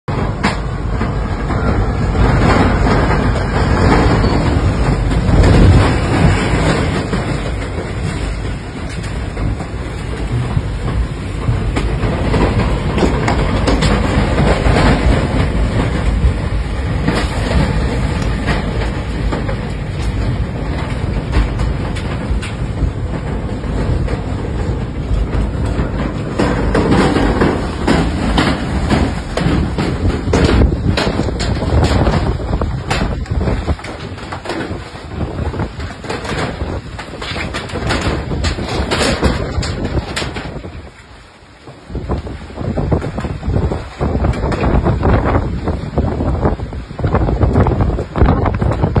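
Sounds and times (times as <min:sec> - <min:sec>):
wind buffeting microphone: 0:00.1 - 0:49.0.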